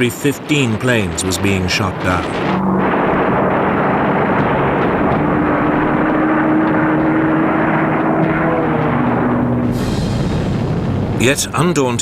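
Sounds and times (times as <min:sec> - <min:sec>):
propeller aircraft engines droning: 0:00.0 - 0:12.0
steady low tone: 0:00.0 - 0:12.0.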